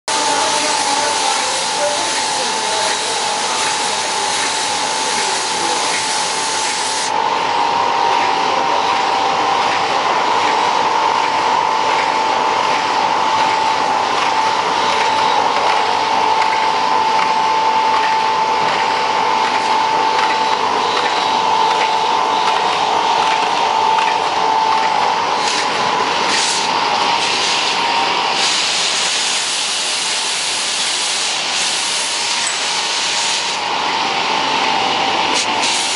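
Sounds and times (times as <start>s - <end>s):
high machine whine: 0.1s - 35.9s
machine hissing: 0.1s - 35.9s.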